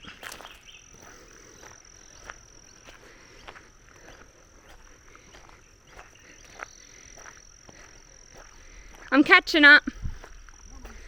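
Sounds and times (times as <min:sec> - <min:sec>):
frogs calling faintly: 0:00.0 - 0:11.0
high-pitched insect drone: 0:00.0 - 0:11.0.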